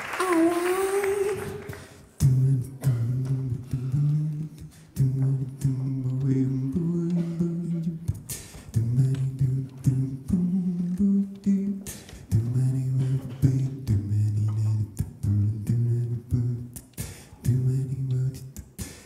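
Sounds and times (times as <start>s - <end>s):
a cappella singing: 0.0s - 19.0s
man humming bass figure: 0.3s - 19.0s.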